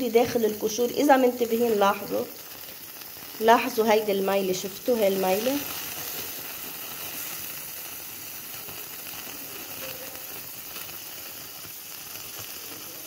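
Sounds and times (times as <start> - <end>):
liquid bubbling and sizzling: 0.0 - 13.0.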